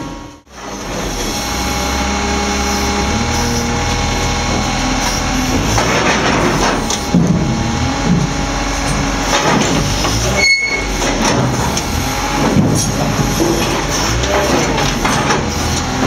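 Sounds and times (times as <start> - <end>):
harsh grinding noise: 0.0 - 16.0
heavy machinery low drone: 0.0 - 16.0.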